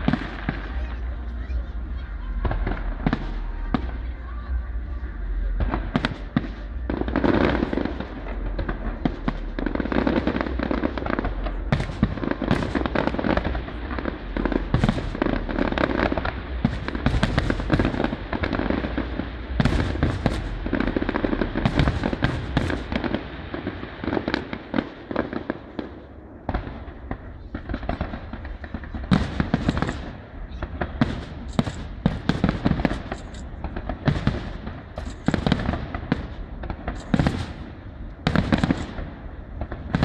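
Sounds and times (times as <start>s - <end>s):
firework shells bursting with crackle: 5.5s - 40.0s.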